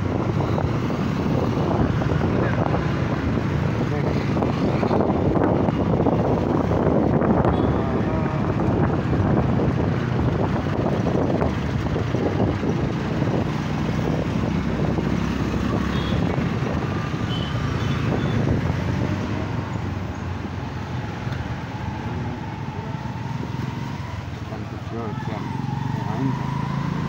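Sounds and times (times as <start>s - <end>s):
traffic road noise: 0.0s - 27.0s.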